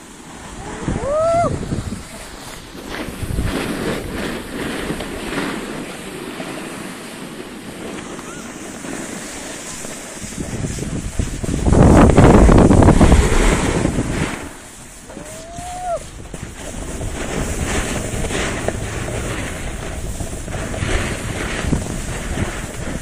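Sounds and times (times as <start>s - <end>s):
skis sliding on snow: 0.0s - 23.0s
wind buffeting microphone: 0.0s - 23.0s.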